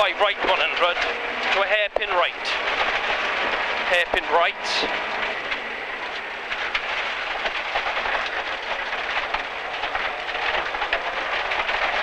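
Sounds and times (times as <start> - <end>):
stones rattling against car underside: 0.0 - 4.3, 4.9 - 12.0
engine and road noise: 0.0 - 12.0.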